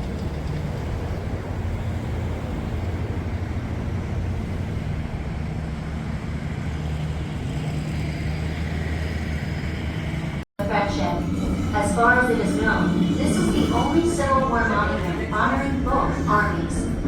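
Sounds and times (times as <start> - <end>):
railway car rumble and hum: 0.0 - 17.0.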